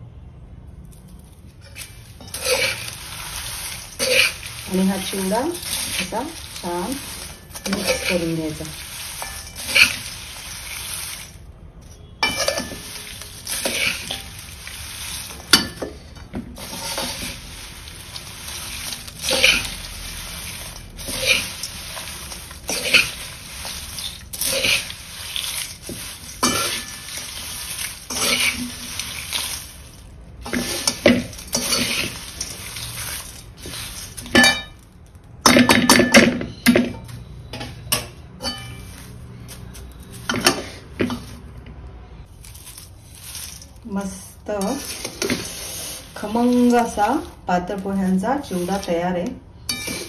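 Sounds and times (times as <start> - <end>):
metal spoon scraping a metal pan: 1.5 - 34.8, 35.4 - 41.4, 44.5 - 50.0.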